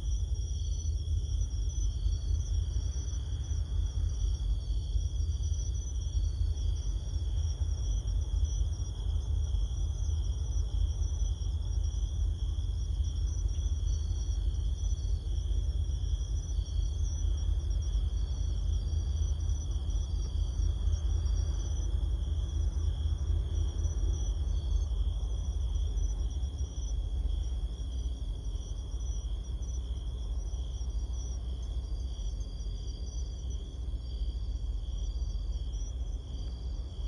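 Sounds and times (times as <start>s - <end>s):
constant low rumble: 0.0s - 37.0s
crickets trilling: 0.0s - 37.0s.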